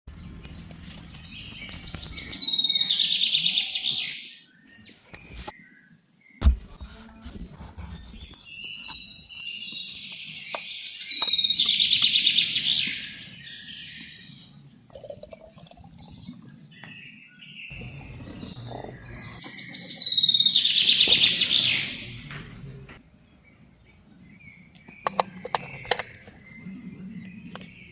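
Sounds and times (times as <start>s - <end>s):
bird chirps: 0.1s - 14.6s, 15.6s - 27.9s.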